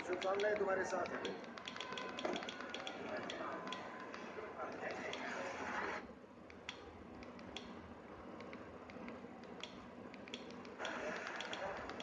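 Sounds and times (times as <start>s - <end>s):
tv dialogue: 0.0s - 12.0s.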